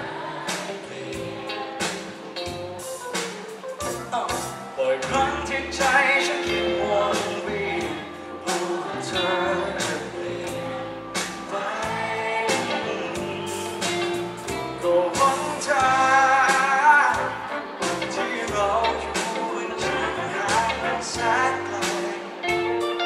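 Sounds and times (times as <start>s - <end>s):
drums: 0.0s - 23.0s
electric guitar: 0.0s - 23.0s
bass guitar: 0.9s - 23.0s
man singing: 3.9s - 23.0s.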